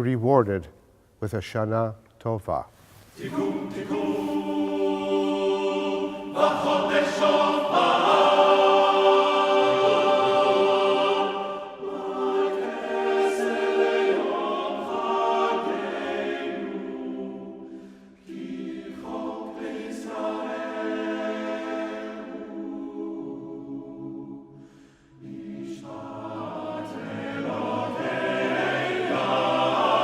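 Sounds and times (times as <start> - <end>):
choir singing held chords: 3.1 - 30.0.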